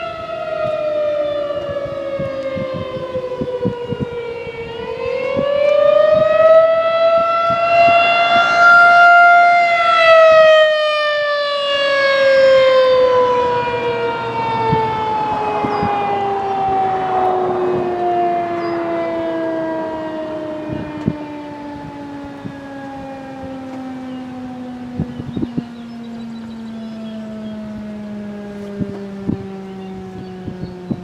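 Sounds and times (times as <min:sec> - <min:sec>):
outdoor warning siren wailing: 0:00.0 - 0:31.0.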